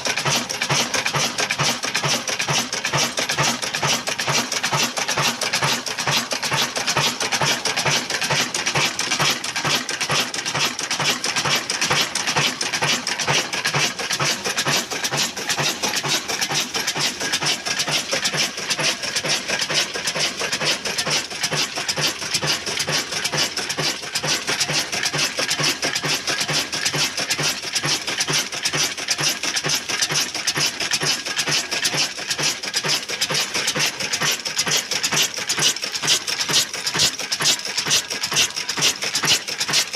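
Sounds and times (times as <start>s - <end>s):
single-cylinder diesel engine running: 0.0s - 39.9s.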